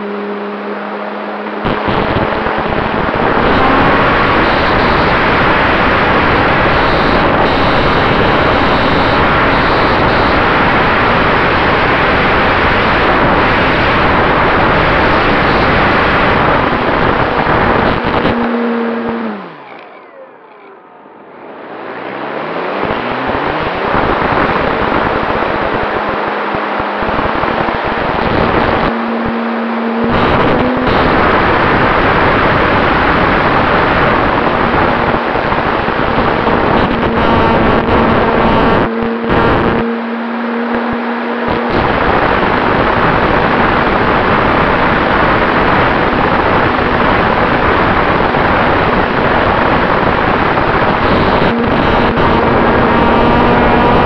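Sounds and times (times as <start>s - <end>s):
wind rush and propeller noise: 0.0s - 19.7s, 21.4s - 54.0s.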